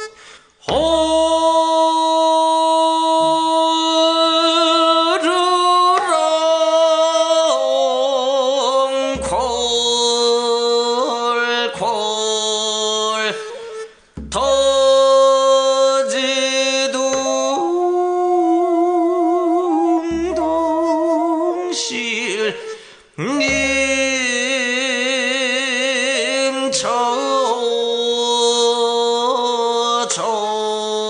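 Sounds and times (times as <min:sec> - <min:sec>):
man singing slow long notes: 0:00.6 - 0:31.0.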